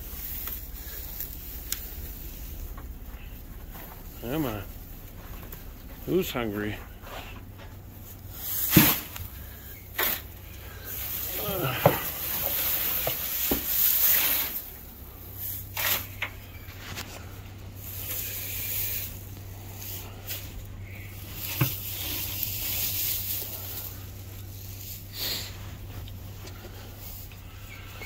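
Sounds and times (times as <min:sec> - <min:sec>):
dry hay rustling: 0:00.0 - 0:28.0.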